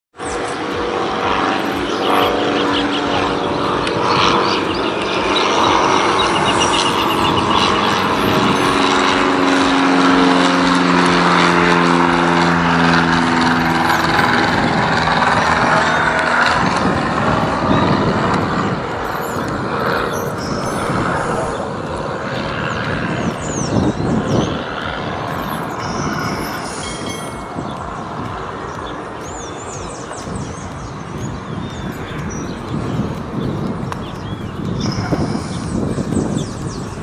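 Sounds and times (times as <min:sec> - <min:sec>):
light aircraft engine droning: 0:00.2 - 0:37.0.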